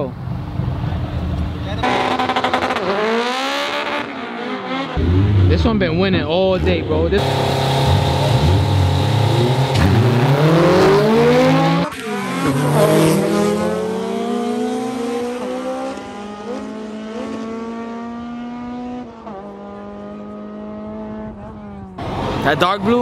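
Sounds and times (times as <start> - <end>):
car engines revving hard: 0.0 - 23.0.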